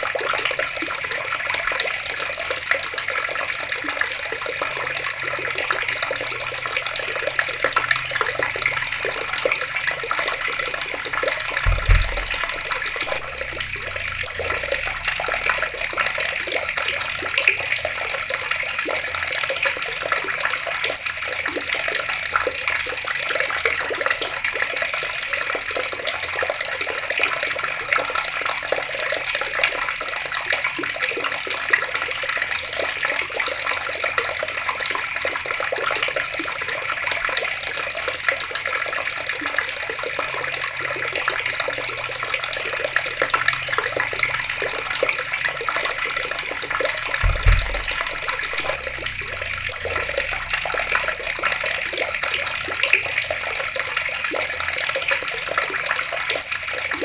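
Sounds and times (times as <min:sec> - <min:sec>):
water tap running: 0:00.0 - 0:56.6.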